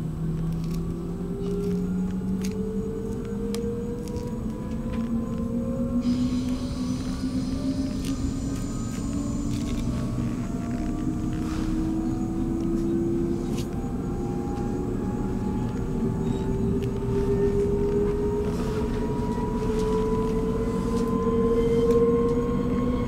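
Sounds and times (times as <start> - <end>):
train rumbling on rails: 0.0 - 23.0
train motor whine rising: 0.2 - 23.0.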